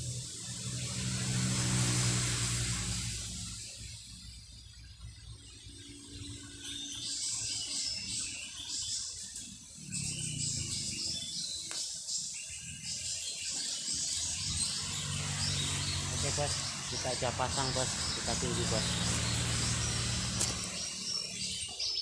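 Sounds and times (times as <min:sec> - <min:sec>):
birds chirping: 0:00.0 - 0:22.0
insects chirping: 0:00.0 - 0:22.0.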